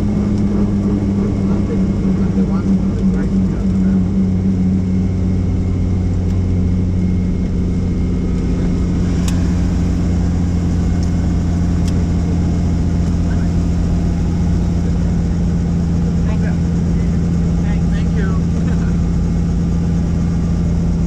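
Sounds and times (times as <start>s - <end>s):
helicopter rotor drone: 0.0s - 21.0s.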